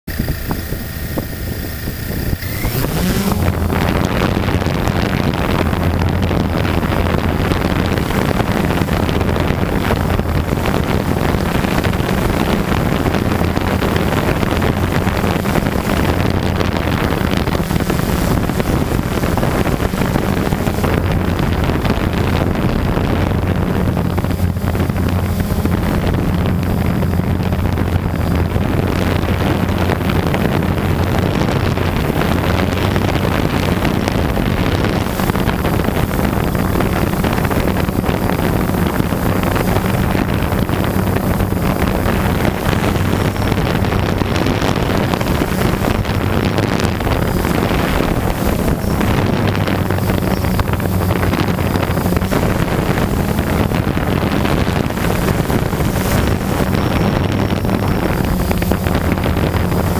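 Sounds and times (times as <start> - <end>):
quadcopter motors humming: 0.1 - 59.9
wind buffeting microphone: 0.1 - 59.9.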